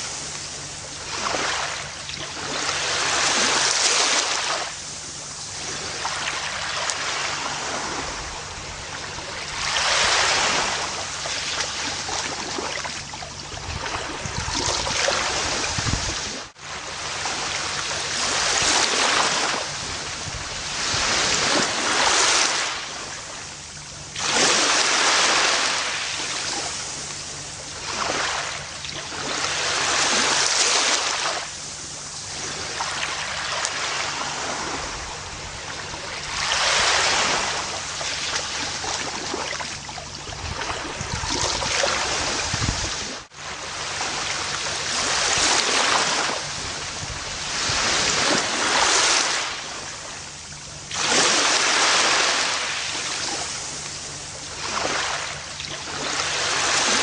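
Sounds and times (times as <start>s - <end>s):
ocean waves washing onto beach: 0.0s - 57.0s.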